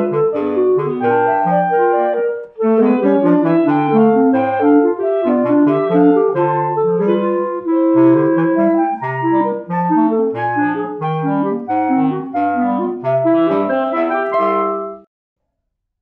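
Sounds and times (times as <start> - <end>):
clarinet quartet playing: 0.0 - 15.1.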